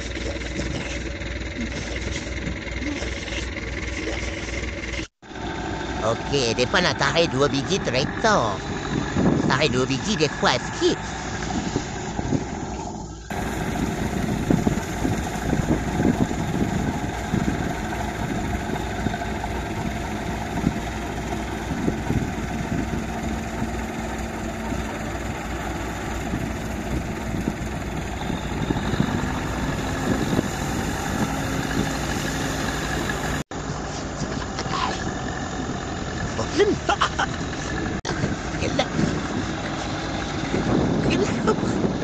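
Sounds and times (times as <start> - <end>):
tractor diesel engines running: 0.0 - 42.0.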